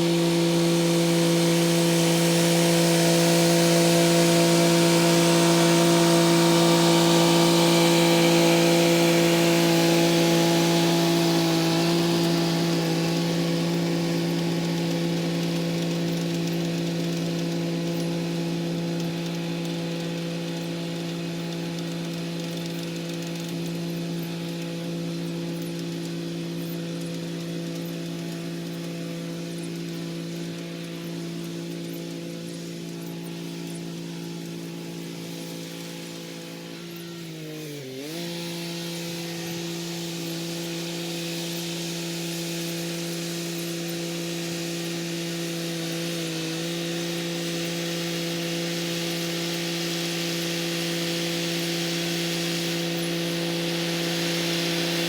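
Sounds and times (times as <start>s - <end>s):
tractor with rotary tiller droning: 0.0s - 55.0s.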